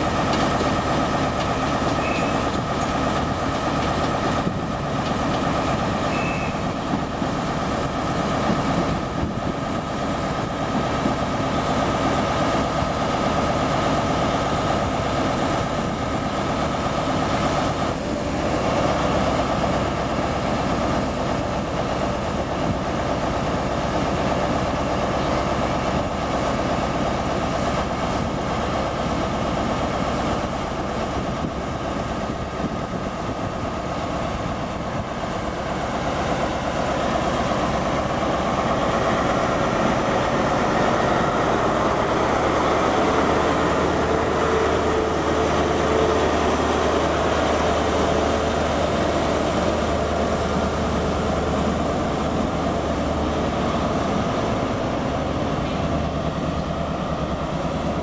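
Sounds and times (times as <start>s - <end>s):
diesel train engine running: 0.0s - 58.0s
train coaches rolling past: 0.0s - 58.0s.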